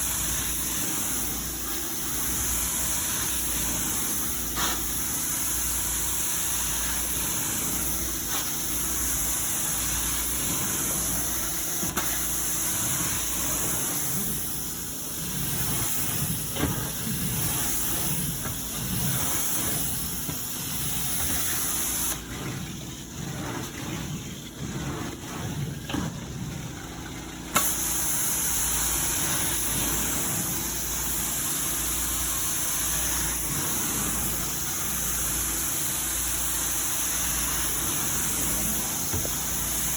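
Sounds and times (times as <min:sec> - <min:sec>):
carpet vacuum hissing: 0:00.0 - 0:26.4, 0:27.5 - 0:39.9.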